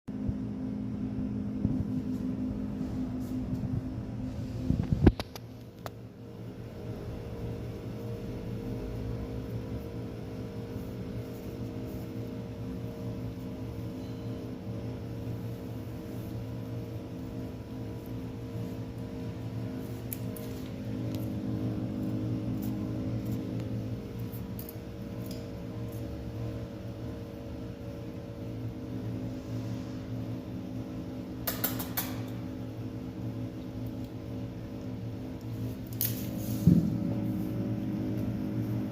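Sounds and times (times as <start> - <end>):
low mechanical hum: 0.1 - 38.9.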